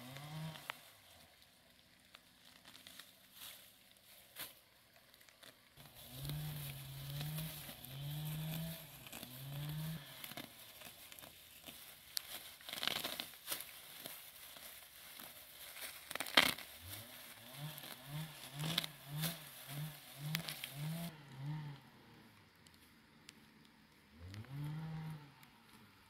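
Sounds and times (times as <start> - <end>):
grass rustling being pulled: 0.0 - 21.9, 24.2 - 26.0.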